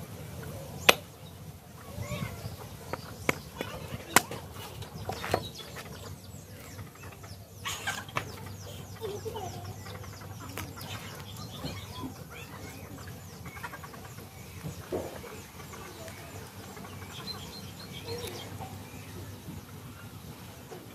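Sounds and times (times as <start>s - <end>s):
chickens clucking: 1.7s - 20.9s.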